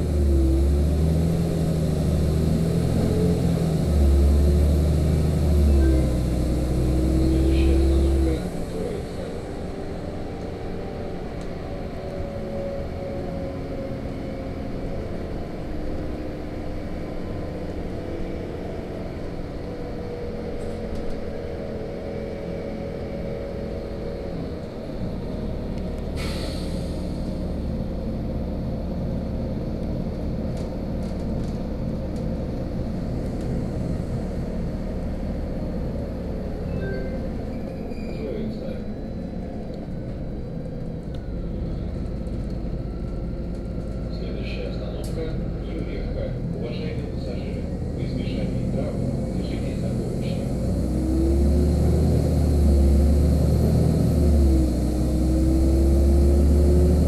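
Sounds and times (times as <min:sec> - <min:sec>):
bus engine whine: 0:00.0 - 0:57.0
low road rumble: 0:00.0 - 0:57.0.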